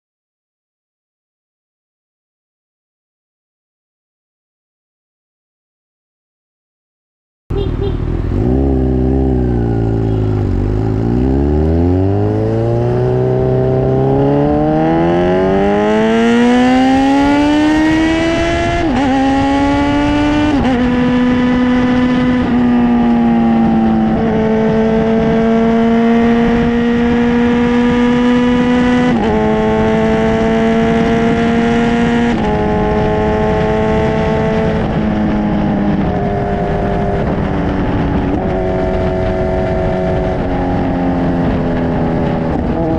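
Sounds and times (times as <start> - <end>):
motorcycle engine accelerating: 7.5 - 42.9.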